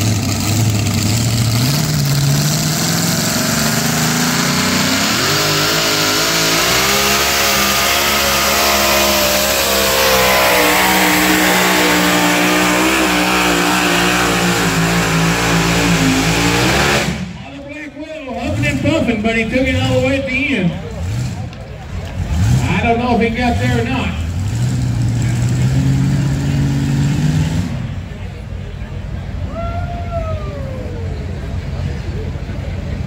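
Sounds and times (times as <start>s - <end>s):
truck engine running hard: 0.0s - 33.0s.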